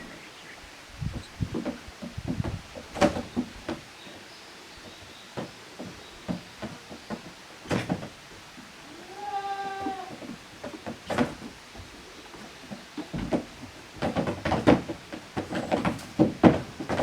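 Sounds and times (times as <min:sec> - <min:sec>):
goats knocking and scuffling: 0:01.4 - 0:04.2, 0:04.8 - 0:08.7, 0:09.7 - 0:17.0.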